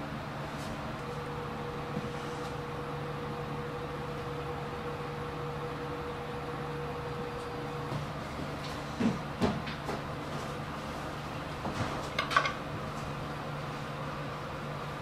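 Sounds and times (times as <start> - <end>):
kitchen machinery hum and hiss: 0.0 - 15.0.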